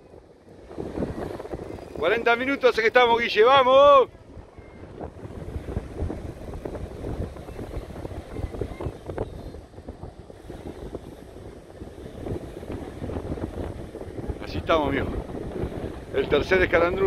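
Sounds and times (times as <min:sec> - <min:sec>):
ocean surf: 0:00.0 - 0:17.0
wind buffeting microphone: 0:00.0 - 0:17.0.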